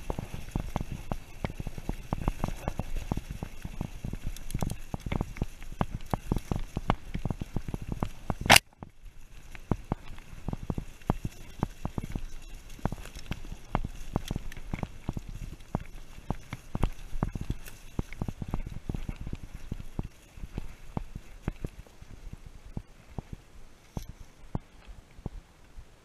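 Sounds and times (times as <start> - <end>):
mountain bike rattling: 0.0 - 25.2.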